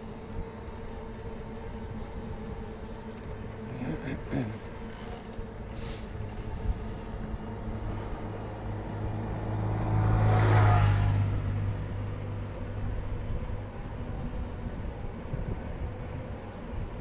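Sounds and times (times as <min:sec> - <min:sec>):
bicycle riding wind and rolling: 0:00.0 - 0:17.0
motor vehicle passing: 0:00.7 - 0:17.0.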